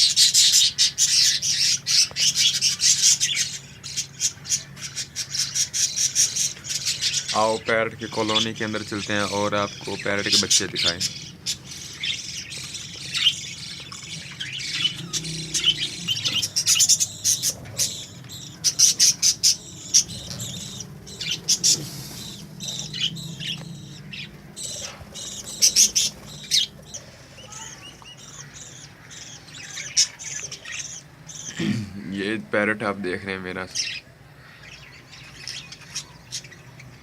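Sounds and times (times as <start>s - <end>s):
budgerigars chirping and chattering: 0.0s - 37.0s.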